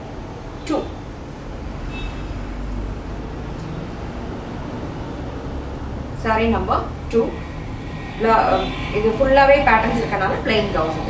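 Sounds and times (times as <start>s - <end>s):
room hum and rumble: 0.0s - 11.0s.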